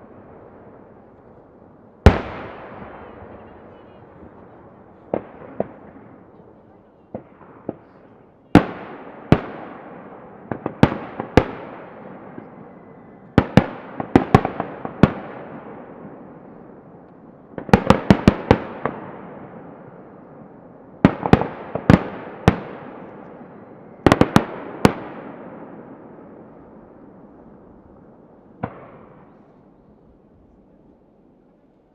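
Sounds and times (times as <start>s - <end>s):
distant fireworks booming: 0.0s - 31.9s.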